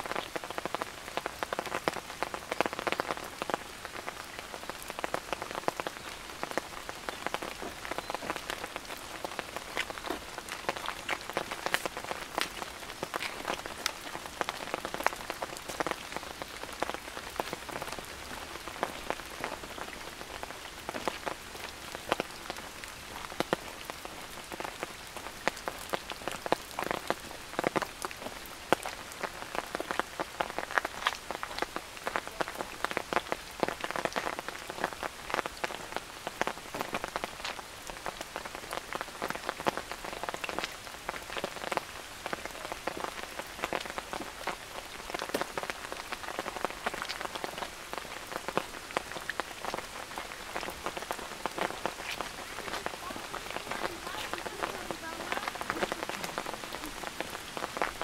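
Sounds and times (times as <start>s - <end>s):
rain drops pattering: 0.0s - 58.0s
rain hiss: 0.0s - 58.0s.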